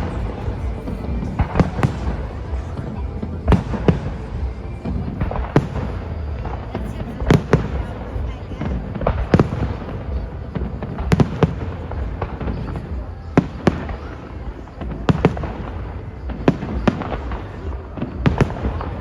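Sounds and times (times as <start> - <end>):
fireworks banging: 0.0 - 19.0
low rumble: 0.0 - 19.0.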